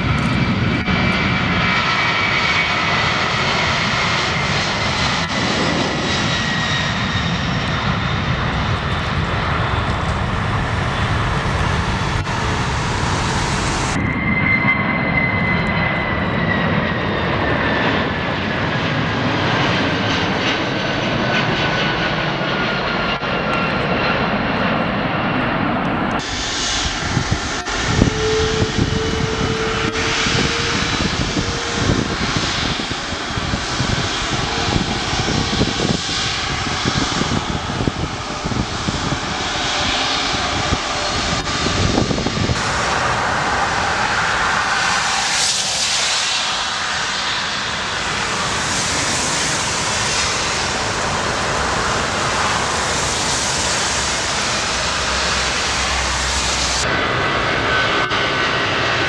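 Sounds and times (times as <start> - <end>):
jet engine whine on approach: 0.0 - 59.0
jet engine whine with rumble: 0.0 - 59.0
jet engines at takeoff power: 0.0 - 59.0.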